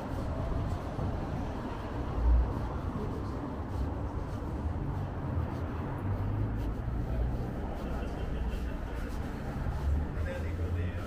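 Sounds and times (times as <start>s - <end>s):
city ambience rumble: 0.0s - 11.0s.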